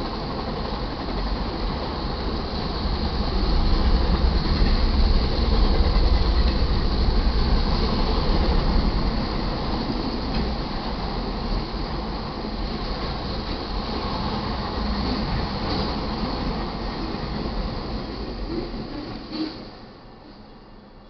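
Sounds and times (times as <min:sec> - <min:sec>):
steel wheels rattling on rails: 0:00.0 - 0:19.7
freight train rolling past: 0:00.0 - 0:21.0.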